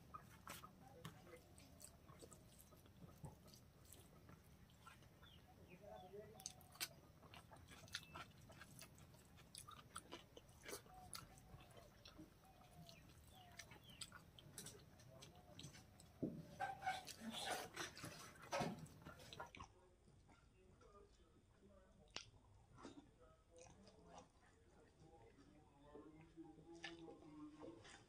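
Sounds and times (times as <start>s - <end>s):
chewing with wet mouth clicks: 0.0s - 20.3s, 22.0s - 25.5s, 26.2s - 27.4s.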